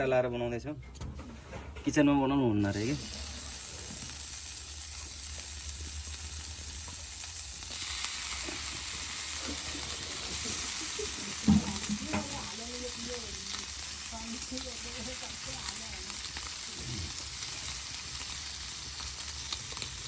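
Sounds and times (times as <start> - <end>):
food sizzling in pan: 2.6 - 20.0.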